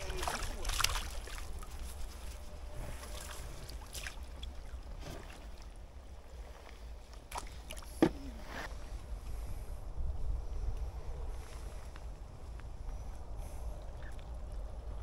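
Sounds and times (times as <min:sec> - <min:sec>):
wind rumble on microphone: 0:00.0 - 0:07.2, 0:08.3 - 0:15.0.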